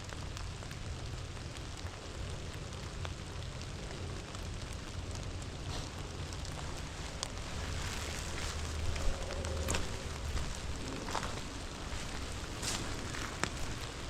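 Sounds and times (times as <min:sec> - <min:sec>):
raindrop ticks: 0:00.0 - 0:14.0
steady rain hiss: 0:00.0 - 0:14.0
low rumble: 0:01.0 - 0:14.0.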